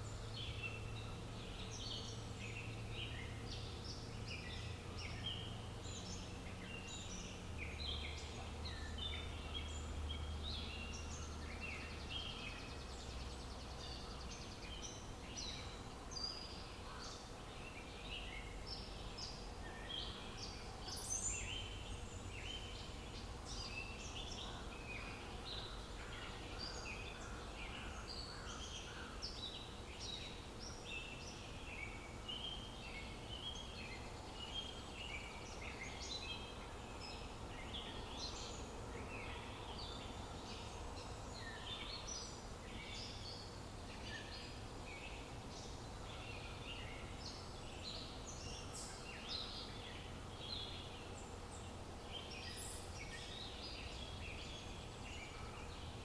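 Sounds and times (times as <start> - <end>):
faint low outdoor rumble: 0.0 - 56.0
songbirds chirping: 0.0 - 56.0.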